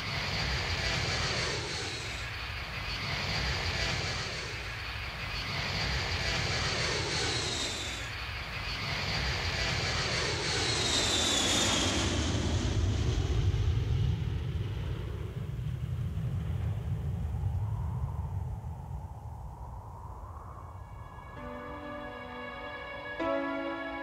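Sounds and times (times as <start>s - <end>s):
jet engine whine falling in pitch: 0.0s - 24.0s
low jet rumble: 0.0s - 24.0s.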